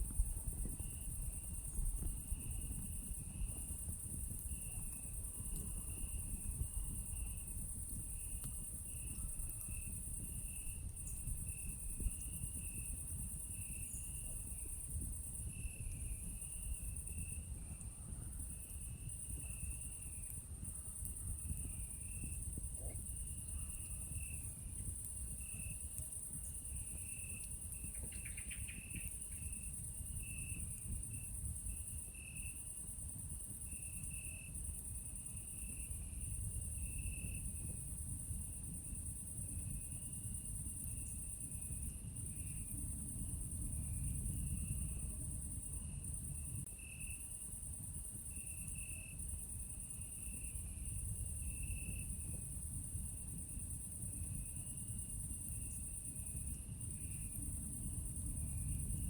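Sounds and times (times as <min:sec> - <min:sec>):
insect chirping: 0:00.0 - 0:59.0.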